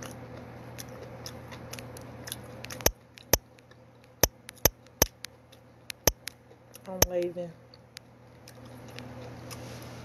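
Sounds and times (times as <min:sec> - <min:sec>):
person chewing food: 0:00.0 - 0:06.9, 0:07.7 - 0:09.9.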